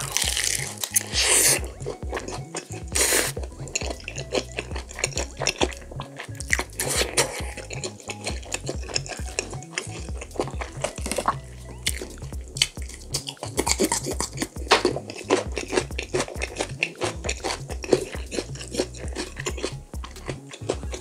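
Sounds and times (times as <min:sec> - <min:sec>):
crunchy bite: 0:00.0 - 0:21.0
wet chewing: 0:00.0 - 0:21.0.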